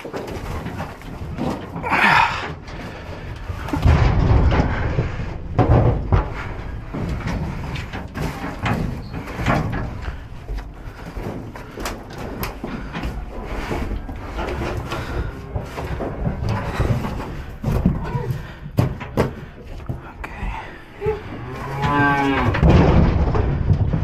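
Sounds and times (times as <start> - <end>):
metal gates clanking and sliding: 0.0 - 18.3, 21.1 - 24.0
footsteps on bedded floor: 0.0 - 22.4.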